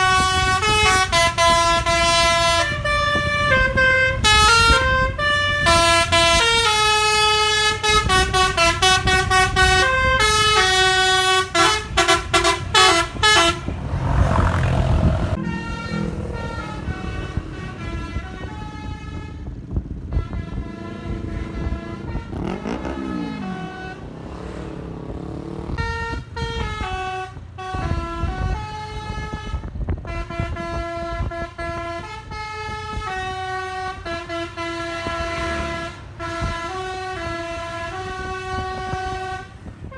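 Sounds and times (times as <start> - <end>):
multi-tone air horn tune: 0.0 - 24.8, 25.6 - 39.9.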